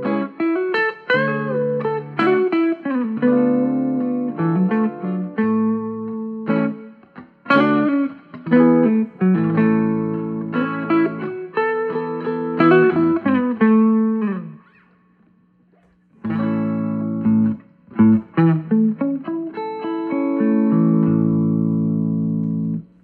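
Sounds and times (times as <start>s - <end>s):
clean electric guitar: 0.0s - 23.0s.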